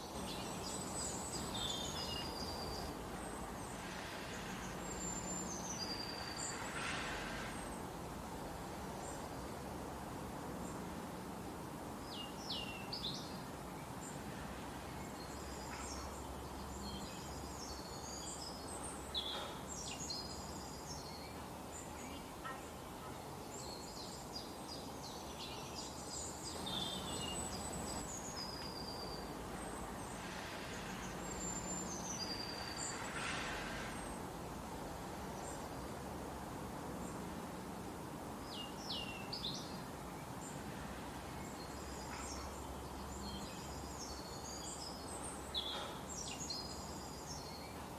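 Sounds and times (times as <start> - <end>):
small birds chirping and trilling: 0.0 - 7.9, 12.0 - 34.3, 38.3 - 47.9
forest ambience hiss: 0.0 - 47.9.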